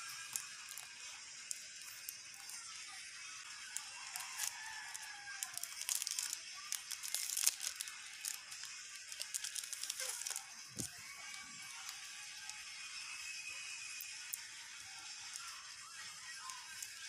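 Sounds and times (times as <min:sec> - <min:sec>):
plastic film and paper crinkling: 0:00.0 - 0:17.0.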